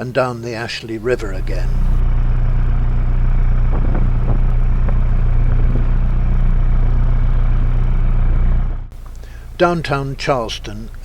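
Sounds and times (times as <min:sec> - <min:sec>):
diesel engine droning: 0:00.5 - 0:11.0.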